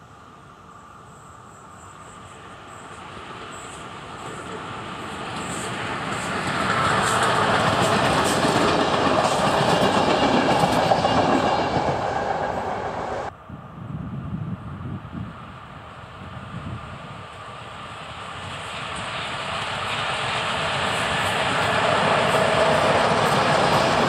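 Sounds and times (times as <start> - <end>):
train passing with wheel clatter: 0.0 - 13.4, 14.4 - 24.0
distant train rumble: 0.0 - 24.0.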